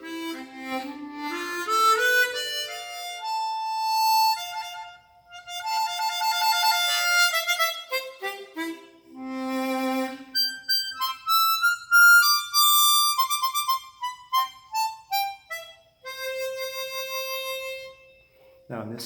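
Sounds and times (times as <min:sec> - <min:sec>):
harmonica melody: 0:00.0 - 0:18.9.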